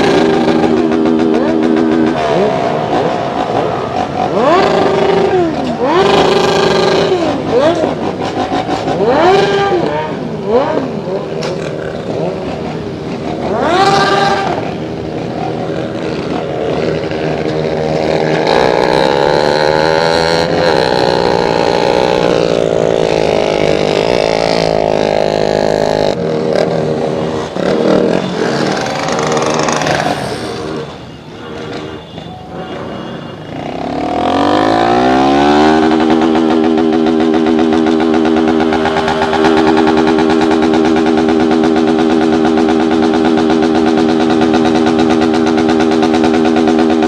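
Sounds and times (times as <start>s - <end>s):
motorcycle engines revving: 0.0s - 47.0s.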